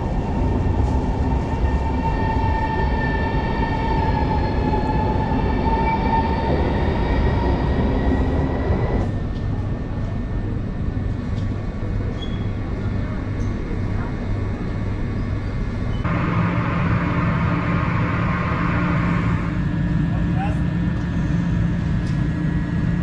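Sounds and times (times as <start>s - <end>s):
standing train humming: 0.0s - 23.0s.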